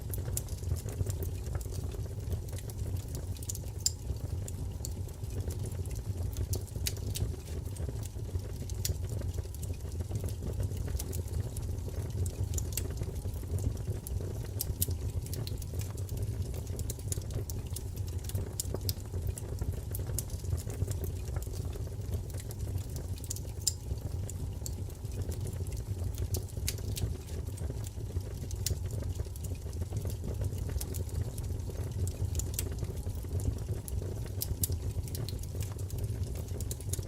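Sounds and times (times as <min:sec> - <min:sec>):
low rumble of flame: 0:00.0 - 0:37.0
wood fire crackling and popping: 0:00.0 - 0:37.0.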